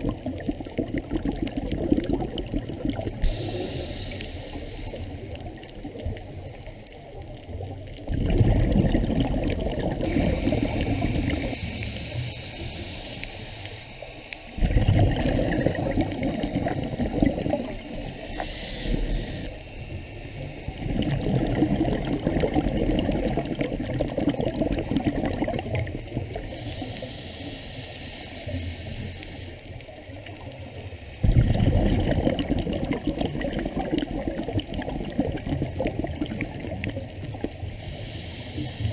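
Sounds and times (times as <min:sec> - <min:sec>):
underwater bubbling rush: 0:00.0 - 0:38.9
underwater water noise: 0:00.0 - 0:38.9.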